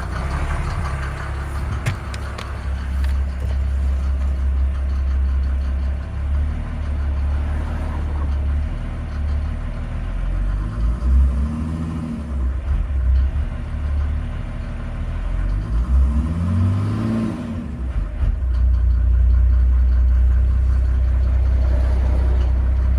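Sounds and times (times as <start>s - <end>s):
diesel engine idling and revving: 0.0s - 22.9s.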